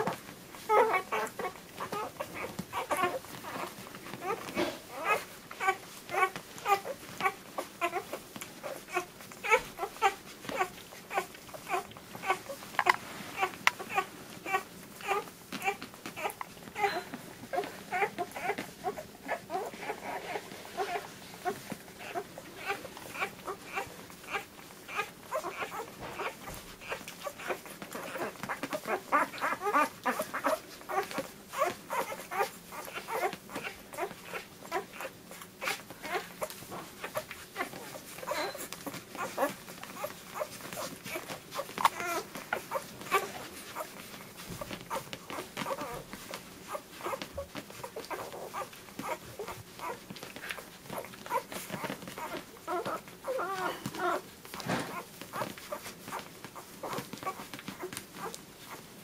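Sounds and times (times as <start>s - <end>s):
puppies squeaking and whimpering: 0.0s - 58.9s
puppies suckling: 0.0s - 59.0s.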